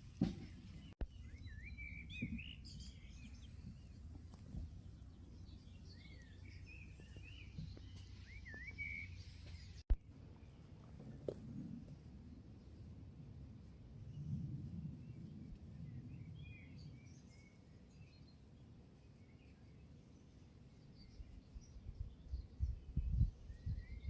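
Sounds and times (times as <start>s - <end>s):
outdoor background: 0.0s - 24.0s
songbird twittering song: 0.2s - 10.7s, 15.0s - 24.0s.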